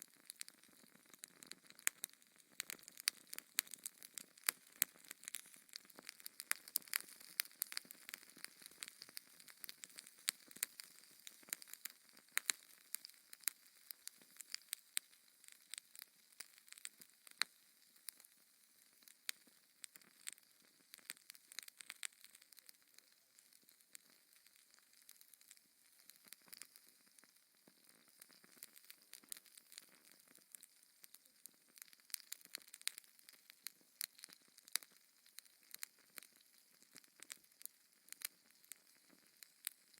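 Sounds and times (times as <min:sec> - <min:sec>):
faint hiss of burning: 0:00.0 - 0:39.9
wood fire crackling and popping: 0:00.0 - 0:39.9.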